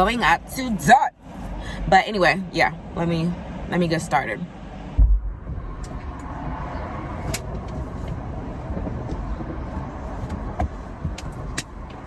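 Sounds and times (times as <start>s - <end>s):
vehicle traffic rumble: 0.0s - 12.0s.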